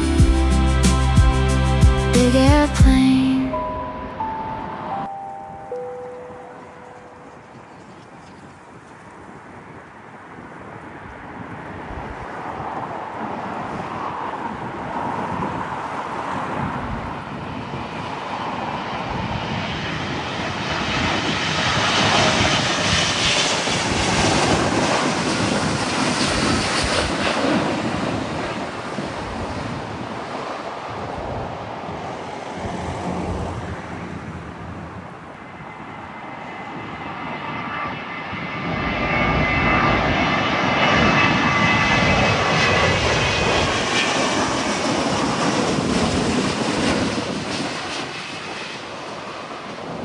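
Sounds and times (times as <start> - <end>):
jet airliner engine roar: 8.7 - 50.0.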